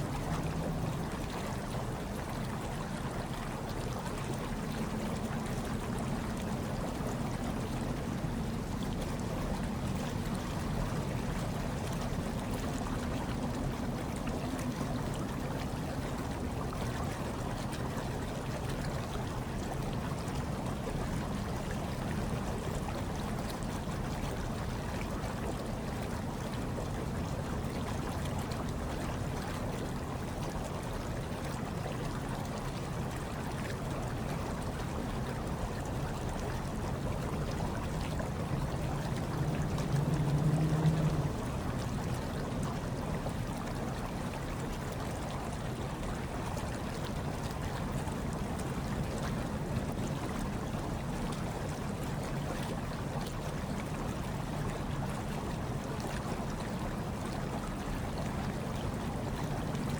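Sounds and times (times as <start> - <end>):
hot tub water bubbling: 0.0 - 59.9.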